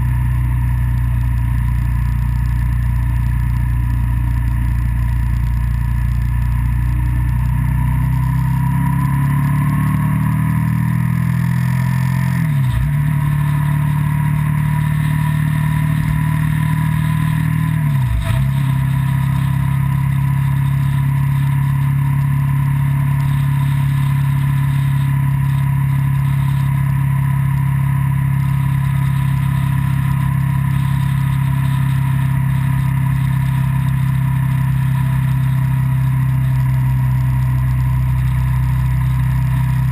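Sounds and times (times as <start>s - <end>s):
road and wind noise: 0.0s - 39.9s
car engine accelerating: 0.7s - 39.9s.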